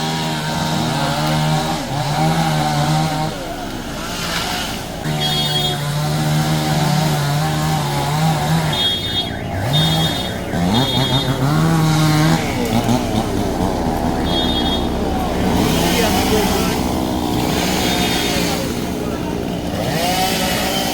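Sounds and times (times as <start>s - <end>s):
small petrol engine revving: 0.0s - 20.9s.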